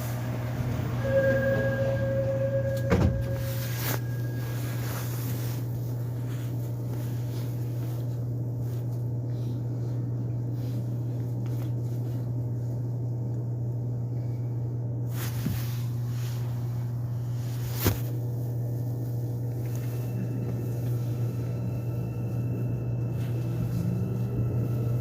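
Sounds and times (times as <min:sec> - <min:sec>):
subway car hum and rumble: 0:00.0 - 0:25.0.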